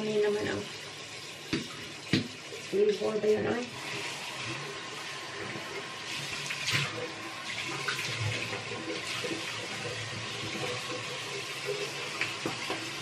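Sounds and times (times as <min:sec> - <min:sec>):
tap water running into sink: 0:00.0 - 0:13.0
water splashing: 0:00.0 - 0:13.0.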